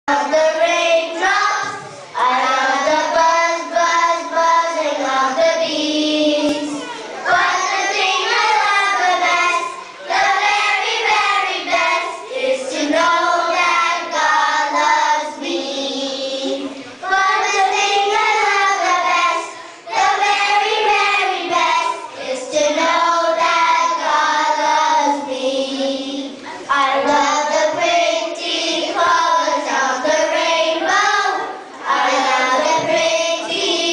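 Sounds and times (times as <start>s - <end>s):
children's choir singing: 0.1s - 33.9s.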